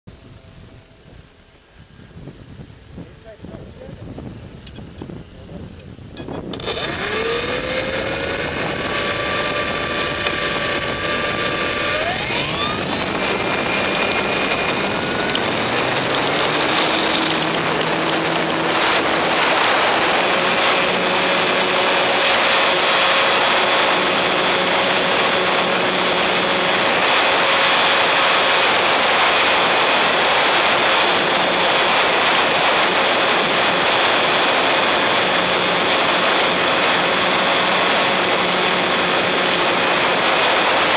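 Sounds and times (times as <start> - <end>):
model plane electric motor whine: 5.9 - 40.9.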